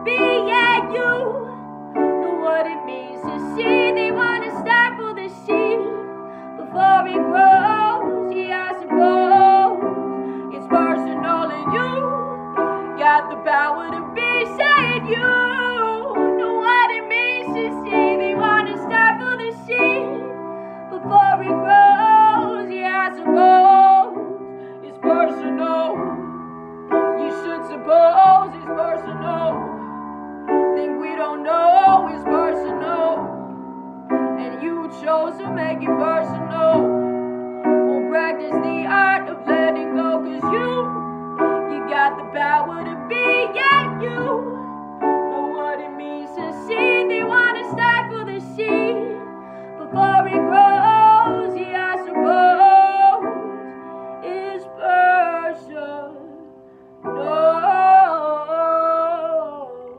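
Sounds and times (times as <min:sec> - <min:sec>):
woman singing: 0:00.0 - 0:33.5, 0:34.1 - 0:59.9
piano accompaniment: 0:00.0 - 0:59.9.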